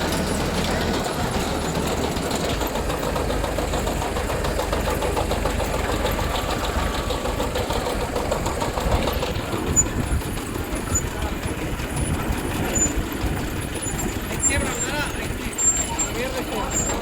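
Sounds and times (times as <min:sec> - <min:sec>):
harvester machinery clattering: 0:00.0 - 0:17.0
tractor engine running: 0:00.0 - 0:17.0.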